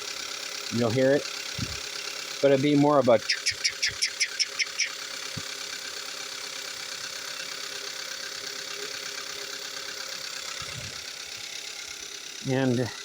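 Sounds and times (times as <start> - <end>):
car engine running: 0.0 - 13.0
fine continuous engine ticking: 0.0 - 13.0.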